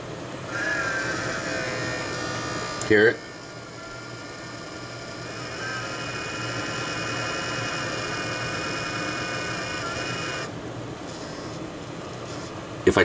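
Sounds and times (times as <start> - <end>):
cooling fan buzzing whine: 0.0 - 13.0.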